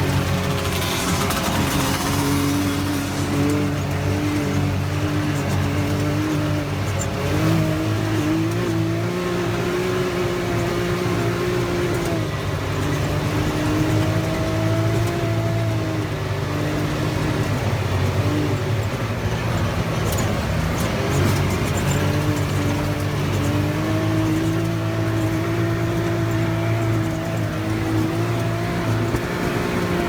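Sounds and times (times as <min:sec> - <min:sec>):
vehicle engine droning: 0:00.0 - 0:30.0
wavering engine whine: 0:00.0 - 0:30.0.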